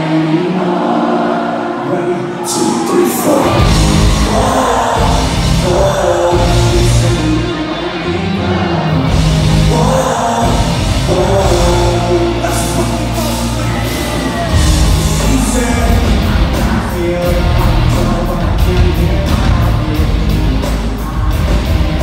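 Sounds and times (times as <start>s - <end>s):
live rock band playing: 2.3s - 22.0s.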